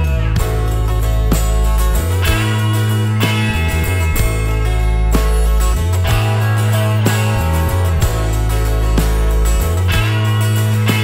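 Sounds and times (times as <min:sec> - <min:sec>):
electric bass held notes: 0:00.0 - 0:11.0
strummed acoustic guitar: 0:00.0 - 0:11.0.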